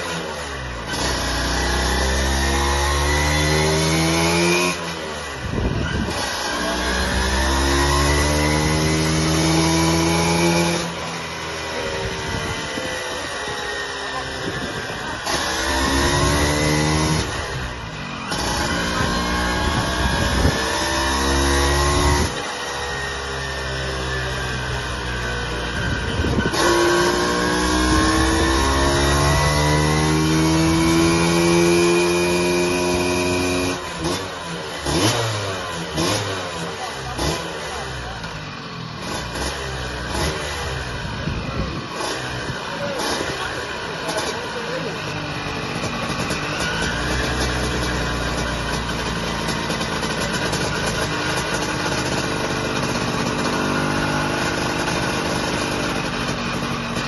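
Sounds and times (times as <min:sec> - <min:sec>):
scooter engine revving: 0:00.0 - 0:57.0.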